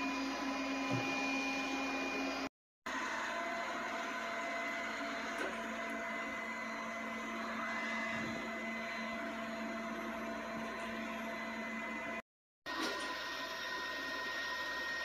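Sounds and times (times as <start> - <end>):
robot vacuum fan whirring: 0.0 - 15.0.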